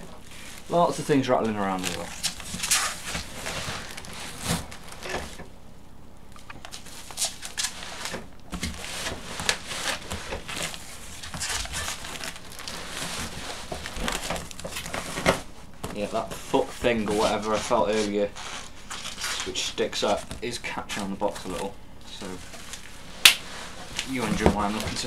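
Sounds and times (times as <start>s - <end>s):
cardboard rustling and scraping: 0.0s - 5.5s, 6.6s - 25.0s.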